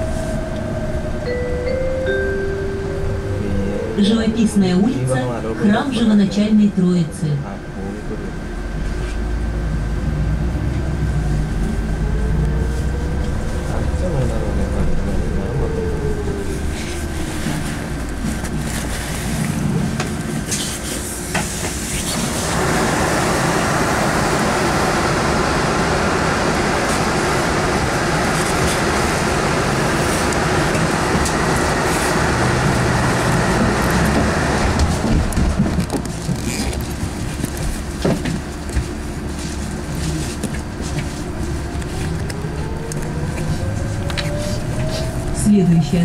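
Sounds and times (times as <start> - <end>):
bus cabin rumble: 0.0 - 46.0.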